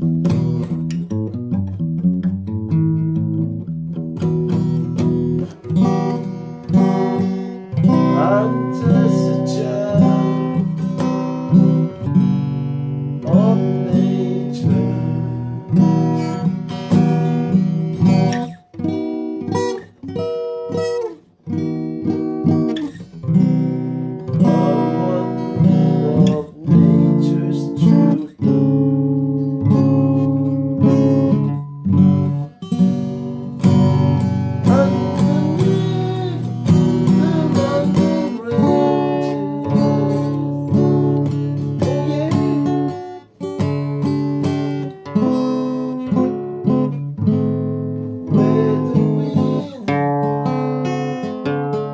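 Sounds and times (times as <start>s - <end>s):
acoustic guitar strumming chords: 0.0s - 51.9s.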